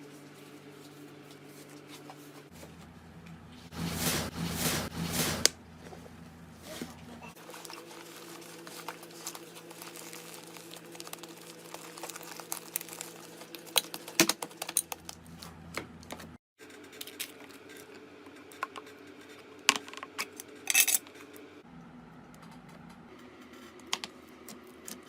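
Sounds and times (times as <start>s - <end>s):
low steady hum: 0.0s - 16.4s, 19.7s - 25.0s.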